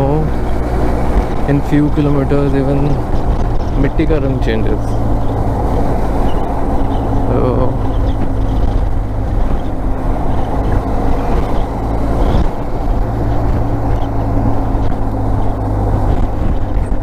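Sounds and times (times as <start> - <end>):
motorcycle engine running: 0.0 - 17.0
road and wind rumble: 0.0 - 17.0.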